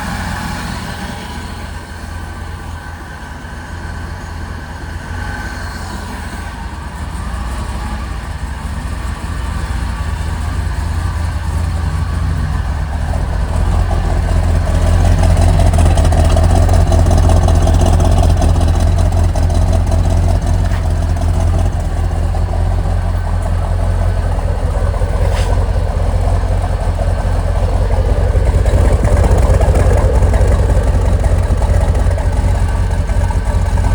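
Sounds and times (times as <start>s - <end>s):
vee eight engine idling: 0.0s - 33.9s.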